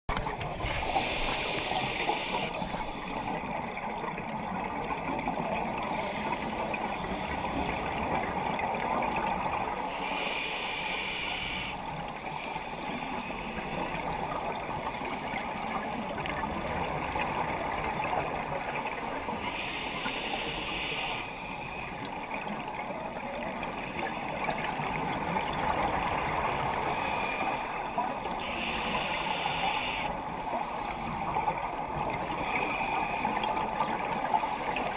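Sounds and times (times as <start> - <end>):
steady underwater noise: 0.1 - 34.9.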